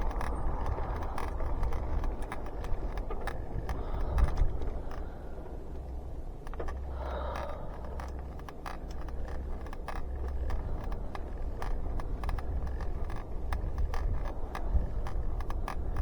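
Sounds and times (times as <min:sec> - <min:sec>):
bicycle clicks and ticks: 0:00.0 - 0:16.0
squeaky bicycle pedal: 0:00.0 - 0:16.0
wind rumbling on microphone: 0:00.0 - 0:16.0.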